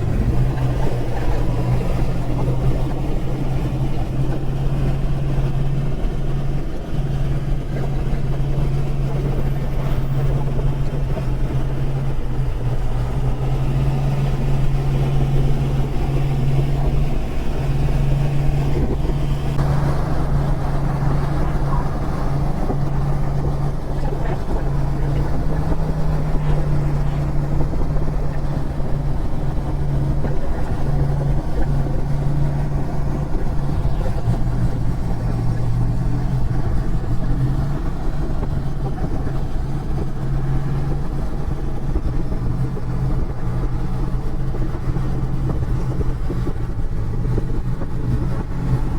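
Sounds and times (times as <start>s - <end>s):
motorcycle engine droning: 0.0s - 48.9s
wind and road noise: 0.0s - 48.9s.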